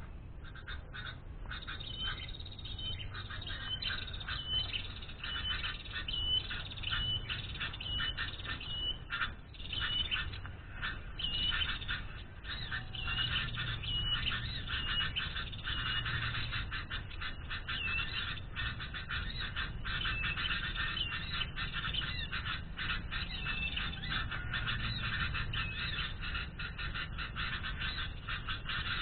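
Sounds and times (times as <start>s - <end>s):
small birds chirping: 0.2s - 29.0s.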